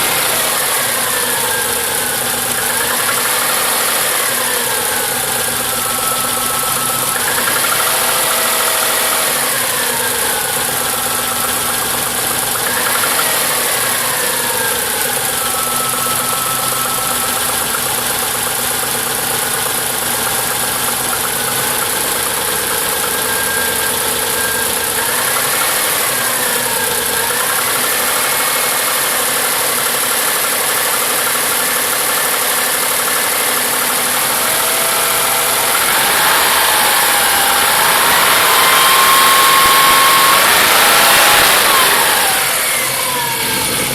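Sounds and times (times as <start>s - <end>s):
car engine running: 0.0s - 43.9s.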